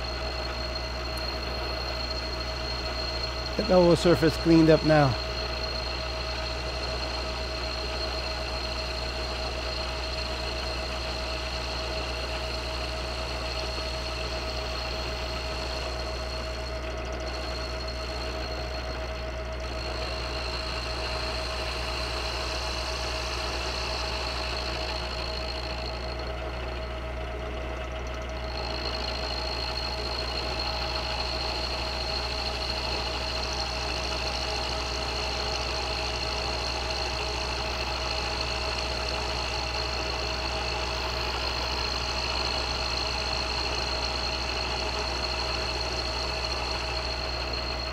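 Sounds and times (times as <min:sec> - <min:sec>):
milling machine whining: 0:00.0 - 0:47.9.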